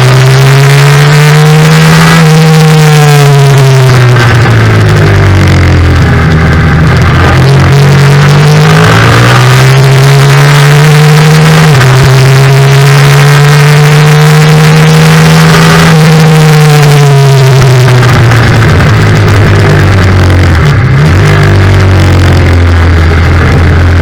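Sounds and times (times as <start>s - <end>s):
loud wind noise: 0.0s - 24.0s
motorcycle engine at high revs: 0.0s - 24.0s.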